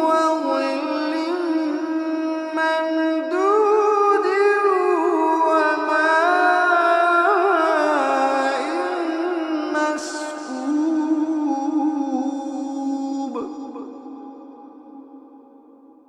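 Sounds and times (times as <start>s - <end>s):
person chanting recitation: 0.0s - 15.6s.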